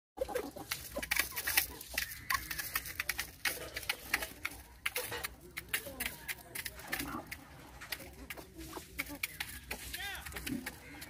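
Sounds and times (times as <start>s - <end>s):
chickens calling: 0.2s - 11.0s
chickens pecking on metal plate: 0.2s - 11.0s.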